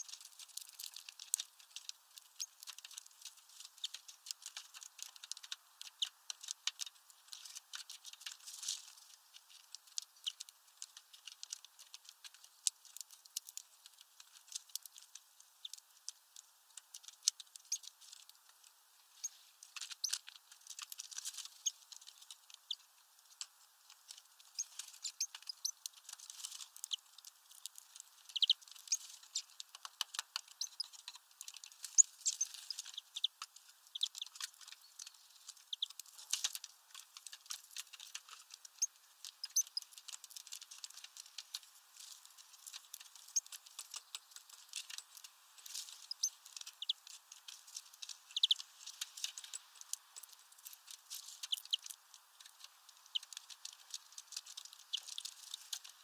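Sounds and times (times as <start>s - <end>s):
birds pecking at seed ball: 0.0s - 56.0s.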